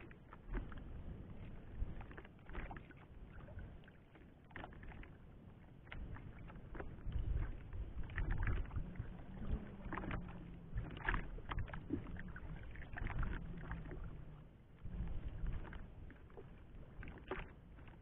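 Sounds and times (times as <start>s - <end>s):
water slapping against hull: 0.0s - 18.0s.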